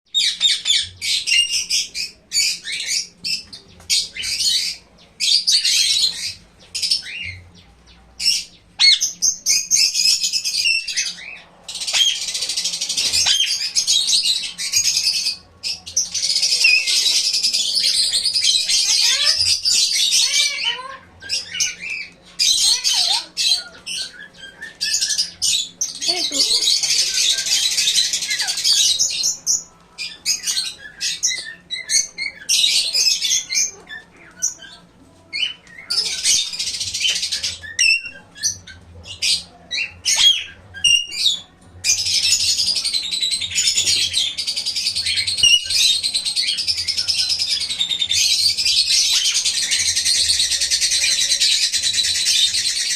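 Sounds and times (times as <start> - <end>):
parrots chirping and chattering: 0.1 - 52.9.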